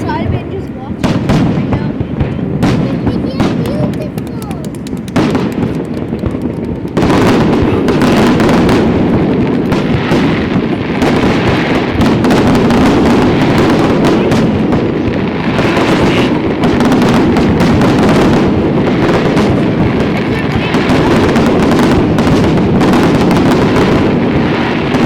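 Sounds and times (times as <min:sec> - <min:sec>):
fireworks banging: 0:00.0 - 0:25.0.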